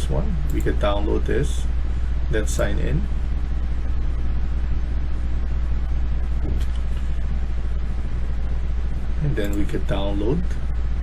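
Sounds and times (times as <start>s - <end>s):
low-pitched hum: 0.0s - 11.0s.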